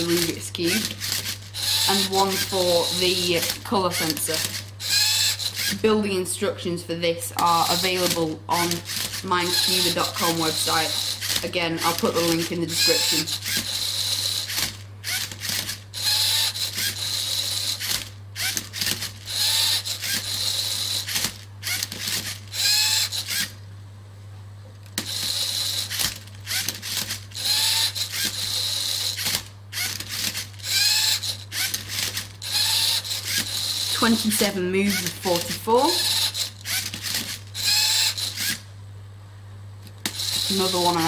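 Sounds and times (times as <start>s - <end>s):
servo motors whining: 0.0s - 6.2s, 7.4s - 23.6s, 25.0s - 38.6s, 40.0s - 41.0s.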